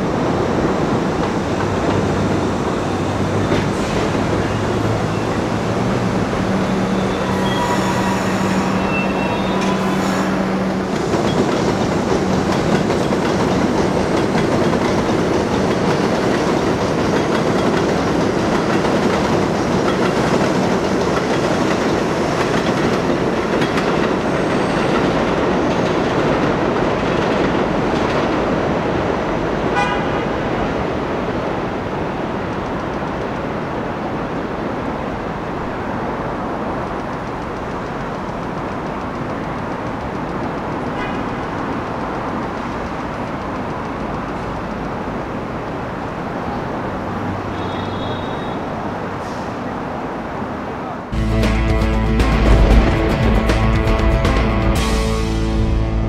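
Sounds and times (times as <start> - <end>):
train wheels on steel track: 0.0 - 55.0.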